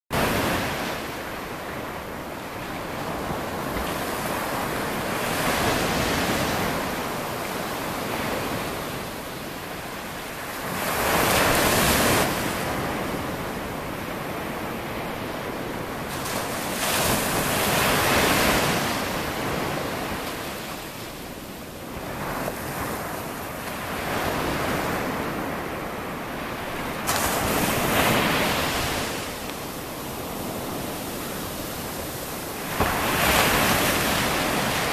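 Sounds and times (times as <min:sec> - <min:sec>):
ocean surf breaking: 0:00.2 - 0:34.9.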